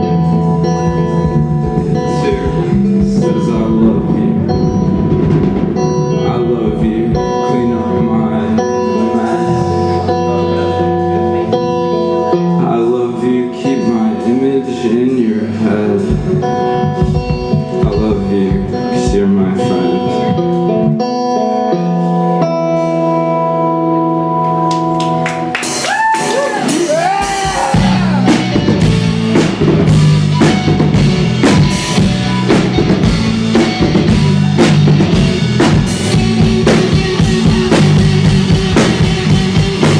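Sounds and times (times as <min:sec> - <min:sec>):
drum kit beat: 0:00.0 - 0:13.0, 0:13.7 - 0:23.6, 0:24.4 - 0:39.9
guitars holding sustained chords: 0:00.0 - 0:25.6, 0:27.7 - 0:39.9
rock band playing live: 0:00.0 - 0:39.9.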